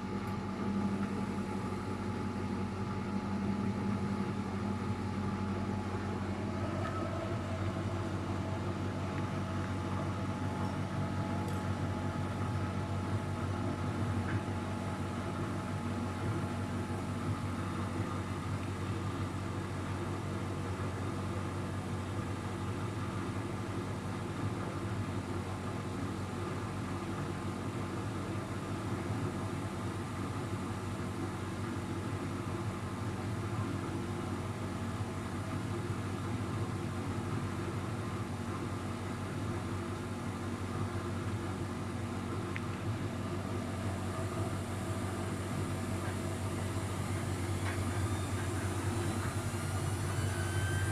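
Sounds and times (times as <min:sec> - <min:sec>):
washing machine humming: 0:00.0 - 0:50.9.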